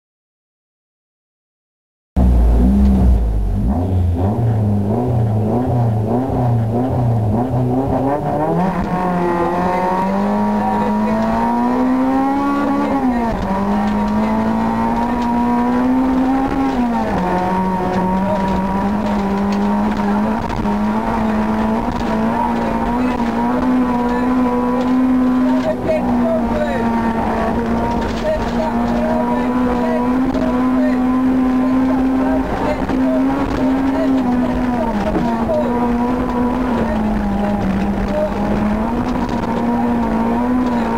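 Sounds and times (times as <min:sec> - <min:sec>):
rally car engine revving: 0:02.2 - 0:40.9.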